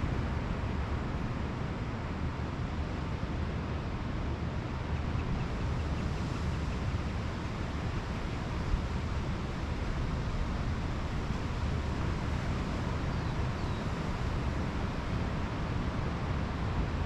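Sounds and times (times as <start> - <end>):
surf washing on a beach: 0.0 - 17.0.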